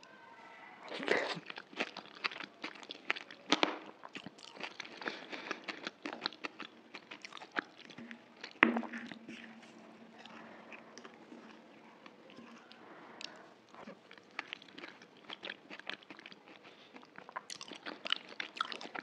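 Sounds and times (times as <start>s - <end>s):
crunchy food chewing: 0.9s - 19.0s.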